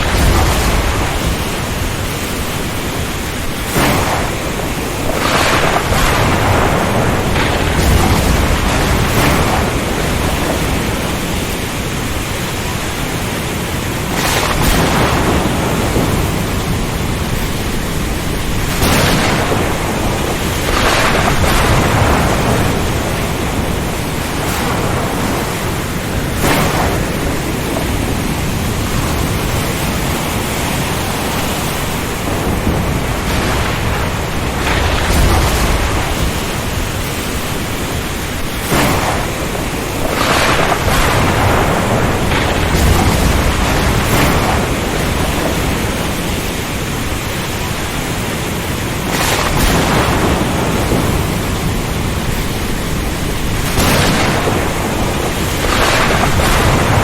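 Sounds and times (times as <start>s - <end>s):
wind and rain rushing: 0.0s - 57.0s.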